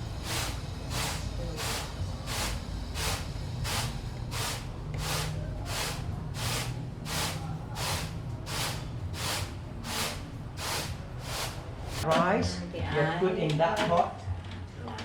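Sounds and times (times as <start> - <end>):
rice tool swishing and grinding: 0.0 - 12.1.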